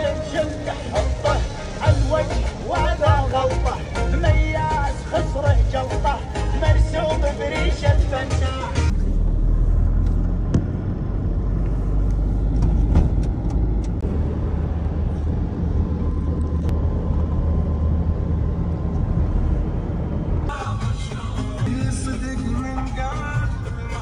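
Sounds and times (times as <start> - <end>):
engine and tyre road noise: 0.0 - 24.0.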